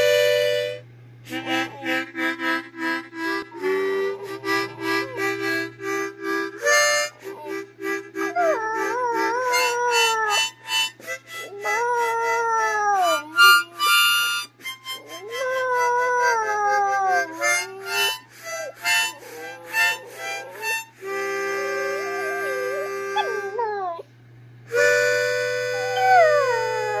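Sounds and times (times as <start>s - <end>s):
harmonica chords: 0.0s - 24.0s, 24.6s - 27.0s
puppy howling: 3.3s - 5.8s, 6.6s - 24.1s, 24.8s - 27.0s.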